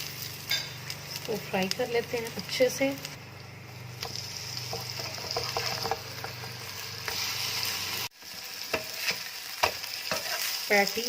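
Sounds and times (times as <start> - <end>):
patties sizzling in oil: 0.0 - 11.0.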